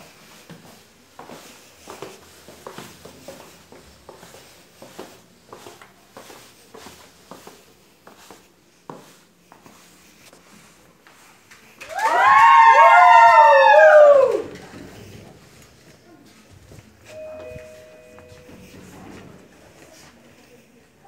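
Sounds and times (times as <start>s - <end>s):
footsteps on tiled stairs: 0.0s - 21.0s.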